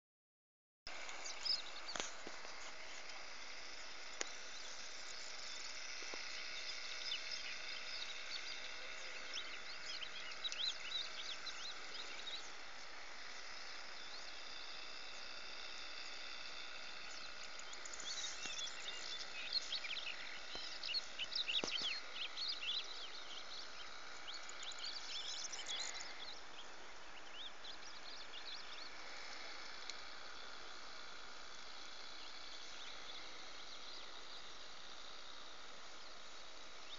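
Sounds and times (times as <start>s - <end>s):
small birds chirping: 0.9s - 36.9s
steady high hiss: 0.9s - 36.9s.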